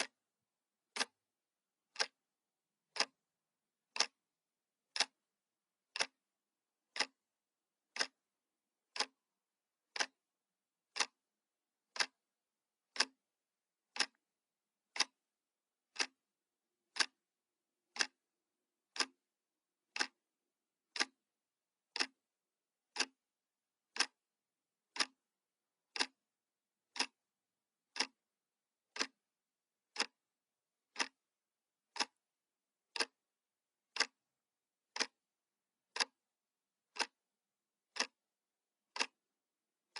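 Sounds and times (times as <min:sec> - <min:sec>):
clock ticking: 0:00.0 - 0:01.2, 0:01.8 - 0:23.2, 0:23.8 - 0:39.9.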